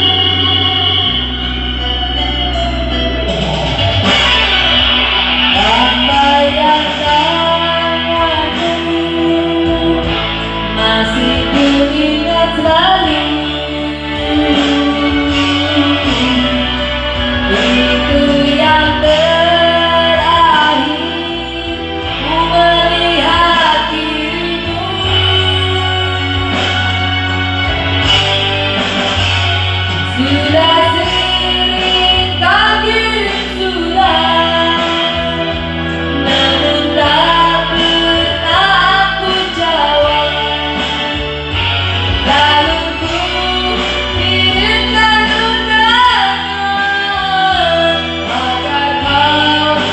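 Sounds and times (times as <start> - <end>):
woman singing with music: 0.0 - 49.9.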